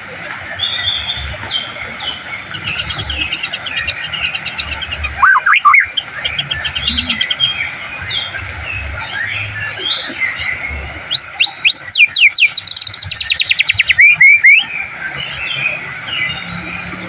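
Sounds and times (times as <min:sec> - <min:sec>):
faint background bird chirping: 0:00.0 - 0:17.0
songbird singing whistles and trills: 0:02.5 - 0:08.4, 0:09.0 - 0:17.0.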